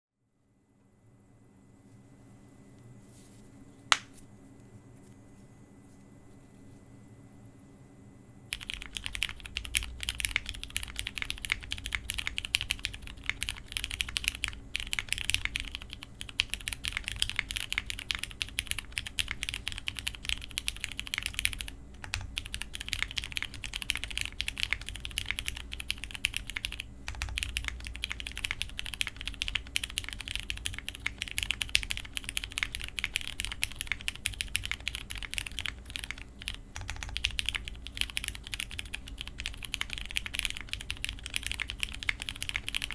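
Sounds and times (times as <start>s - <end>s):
mechanical keyboard typing: 8.5s - 42.9s.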